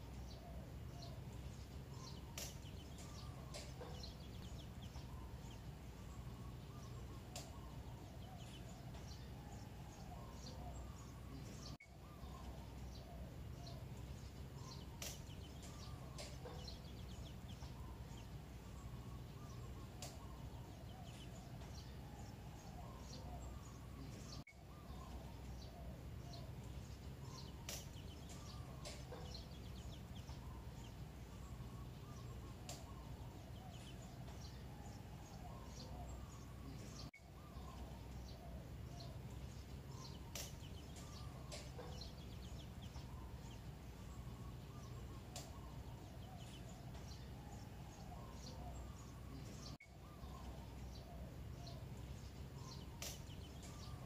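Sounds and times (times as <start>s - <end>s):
birds chirping: 0.0s - 54.0s
lower wavering bird calls: 0.0s - 54.0s.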